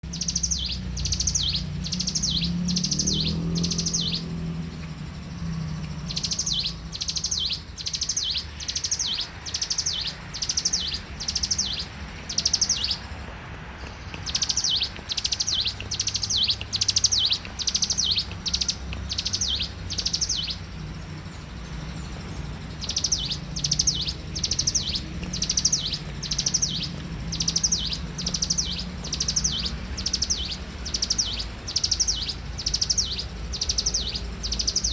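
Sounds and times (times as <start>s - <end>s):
small bird singing trilled phrases: 0.0s - 34.9s
steady low rumble: 0.1s - 34.9s.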